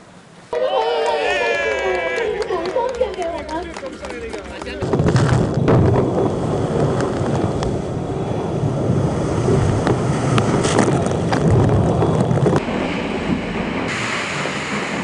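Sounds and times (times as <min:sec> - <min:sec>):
sea water rushing past yacht: 0:01.4 - 0:15.0
wind buffeting microphone: 0:01.9 - 0:15.0.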